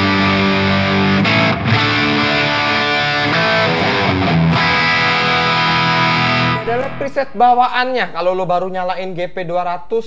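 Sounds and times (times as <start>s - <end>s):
distorted electric guitar chords: 0.0s - 8.3s.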